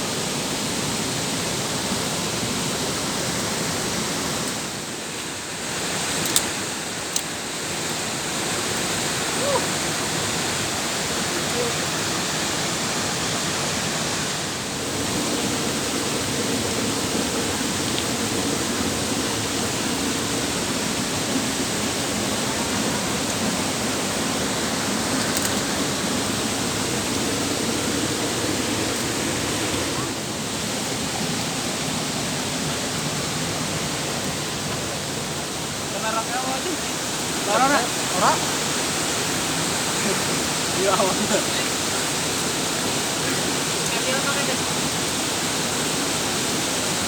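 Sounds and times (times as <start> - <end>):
waterfall roaring: 0.0 - 47.0.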